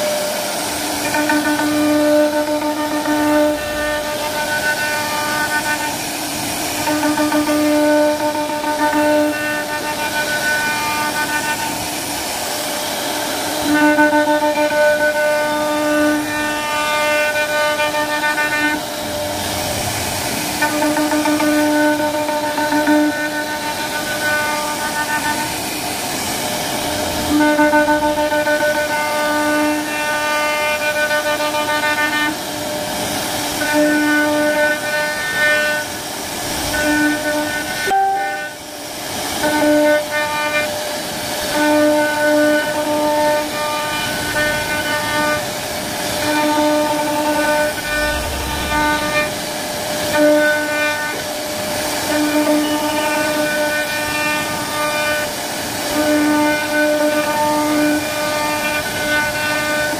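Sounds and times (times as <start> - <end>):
router spindle whine carving wood: 0.0 - 59.9.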